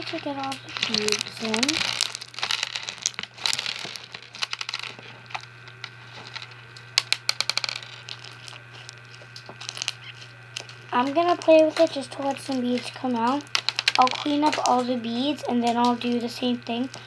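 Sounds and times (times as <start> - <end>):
slime crackling and clicking: 0.0 - 5.8, 8.0 - 17.0.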